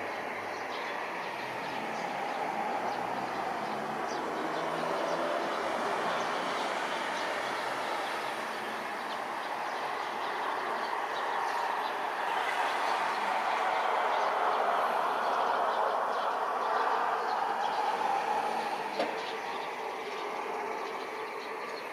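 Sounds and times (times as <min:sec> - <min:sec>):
distant jet engine roar: 0:00.0 - 0:21.9.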